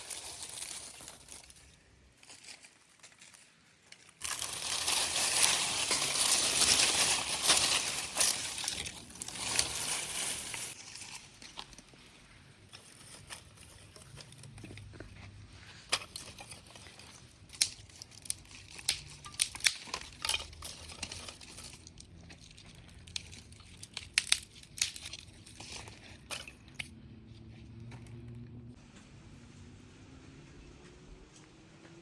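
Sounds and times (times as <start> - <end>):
crinkling and tearing: 0.0 - 27.0.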